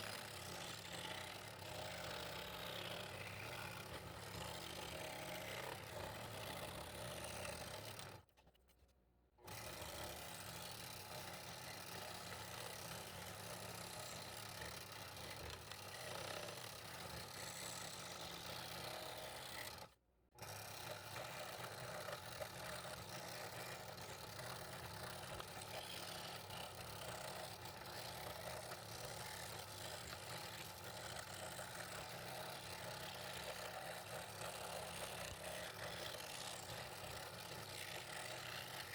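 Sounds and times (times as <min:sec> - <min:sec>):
scroll saw cutting wood: 0:00.0 - 0:08.3, 0:09.4 - 0:38.9.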